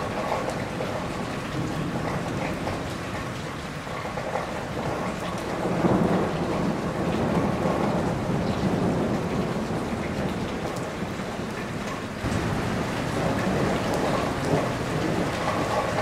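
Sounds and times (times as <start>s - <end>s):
heavy rain on a roof: 0.0s - 16.0s.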